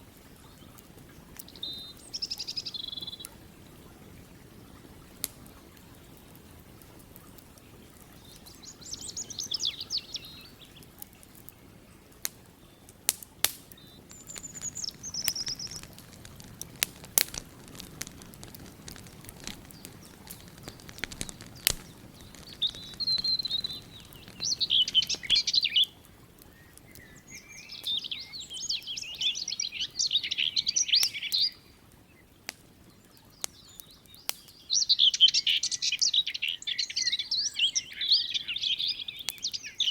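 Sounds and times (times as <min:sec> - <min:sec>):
campfire crackling: 0:00.0 - 0:39.9
songbirds singing: 0:00.0 - 0:39.9.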